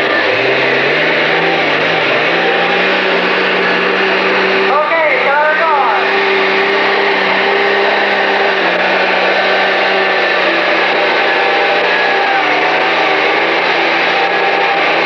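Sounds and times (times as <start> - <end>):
held whine: 0.0 - 15.0
tractor engine at high revs: 0.0 - 15.0.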